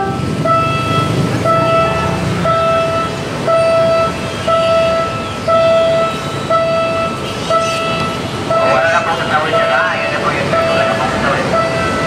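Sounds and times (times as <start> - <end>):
level crossing warning tone: 0.0 - 12.0.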